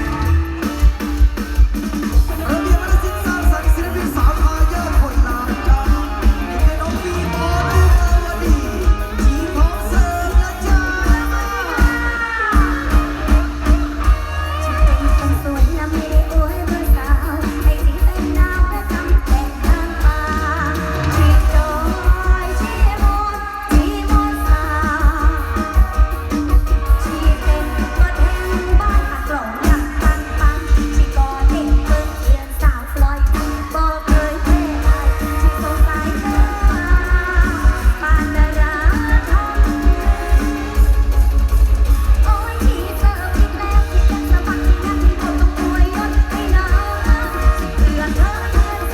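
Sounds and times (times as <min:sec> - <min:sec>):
bass drum beat: 0:00.0 - 0:48.9
electric guitar: 0:00.0 - 0:48.9
person singing: 0:00.0 - 0:48.9.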